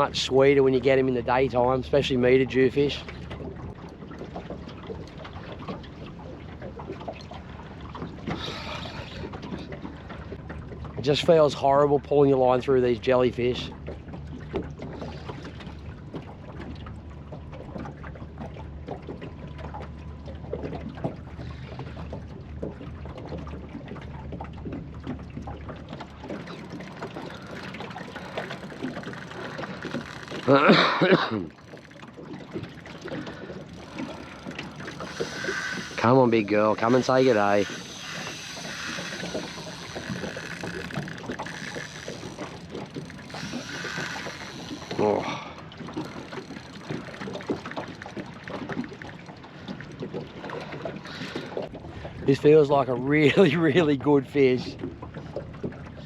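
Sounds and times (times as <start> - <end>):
water lapping against boat hull: 0.0 - 56.0.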